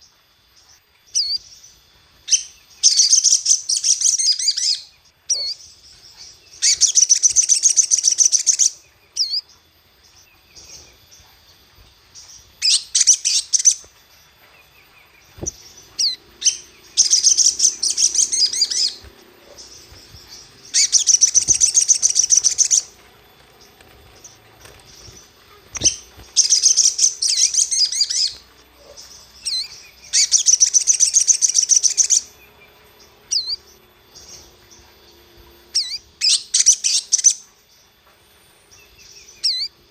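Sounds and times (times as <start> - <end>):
songbird trilling: 0.0 - 37.8, 38.7 - 39.9
bird chirps: 0.0 - 39.9.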